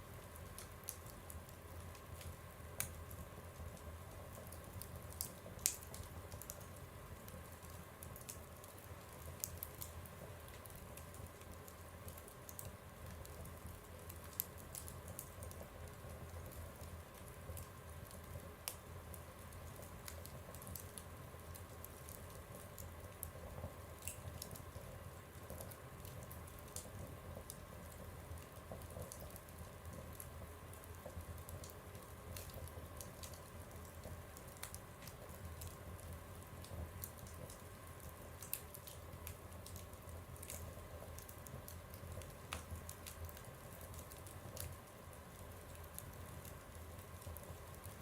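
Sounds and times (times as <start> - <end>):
soft low rumble of fire: 0.0 - 48.0
wood fire crackling: 0.0 - 48.0.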